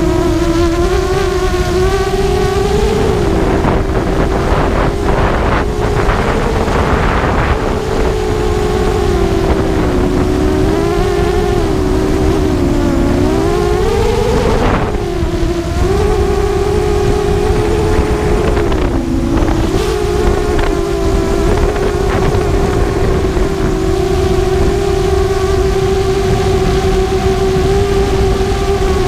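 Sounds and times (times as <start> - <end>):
quadcopter motors whining: 0.0 - 29.0
wind rumble on microphone: 0.0 - 29.0.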